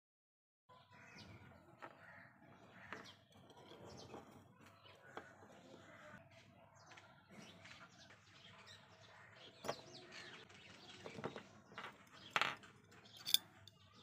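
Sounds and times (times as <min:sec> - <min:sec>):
faint birds chirping: 0:00.7 - 0:14.0.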